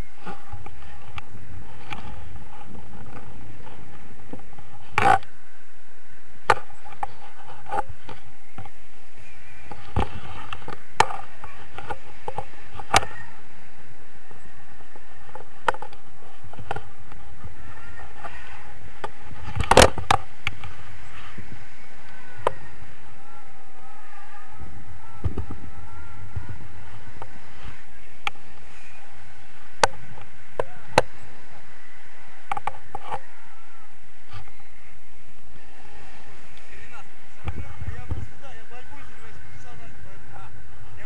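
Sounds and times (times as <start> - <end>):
wind on microphone: 0.0 - 41.0.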